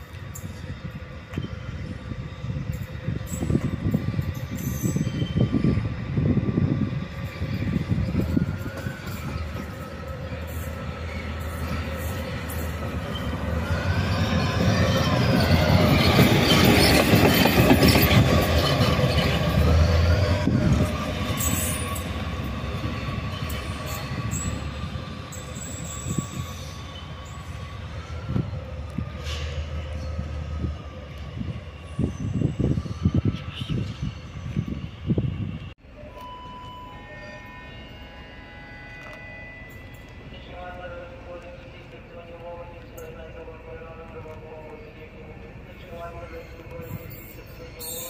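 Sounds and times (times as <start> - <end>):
train wheels squealing on rails: 0.0 - 42.2, 44.4 - 48.0.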